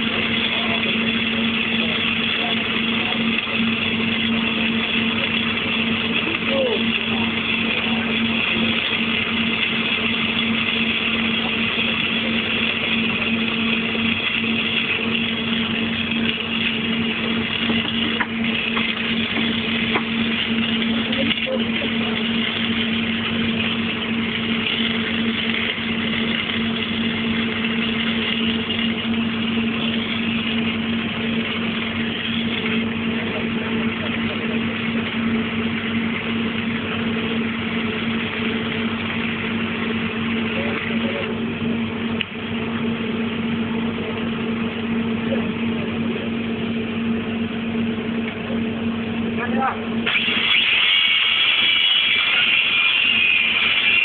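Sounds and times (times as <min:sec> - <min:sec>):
welding machine engine humming: 0:00.0 - 0:54.0.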